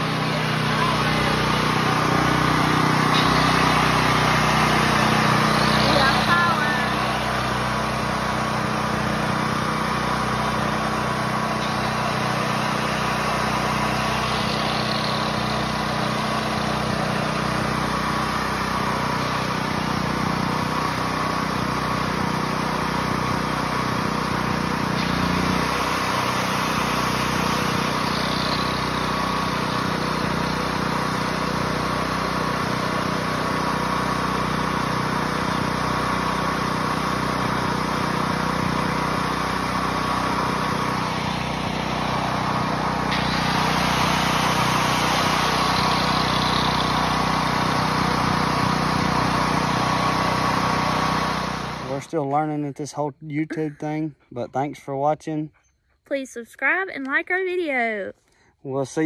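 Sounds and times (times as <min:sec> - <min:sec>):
generator engine running: 0:00.0 - 0:54.7.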